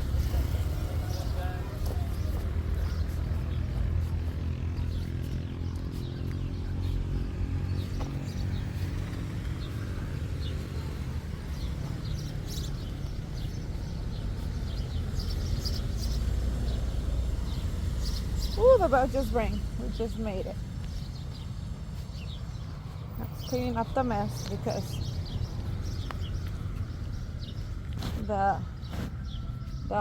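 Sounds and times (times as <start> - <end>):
birds chirping: 0.0 - 30.0
low motor rumble: 0.0 - 30.0.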